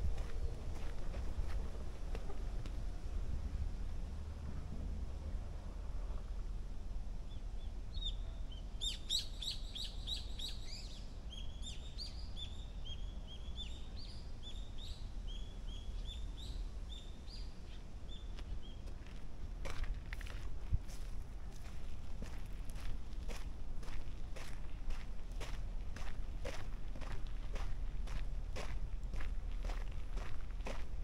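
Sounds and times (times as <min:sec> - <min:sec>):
low steady rumble: 0:00.0 - 0:08.8, 0:10.9 - 0:31.0.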